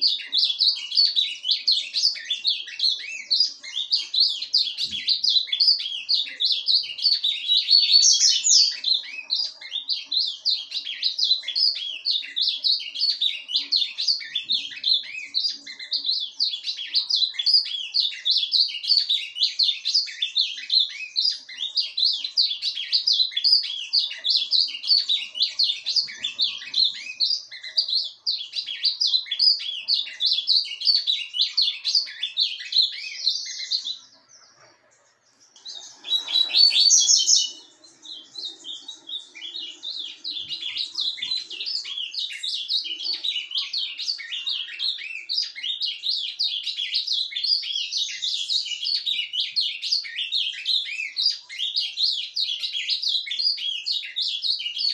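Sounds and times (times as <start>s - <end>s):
bird singing chirps and warbles: 0.0s - 54.9s.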